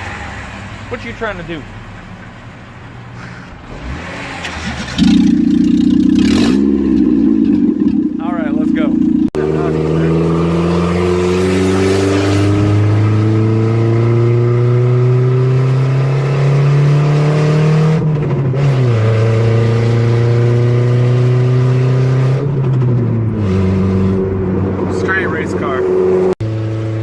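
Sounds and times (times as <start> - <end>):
car engine accelerating: 3.6 - 27.0.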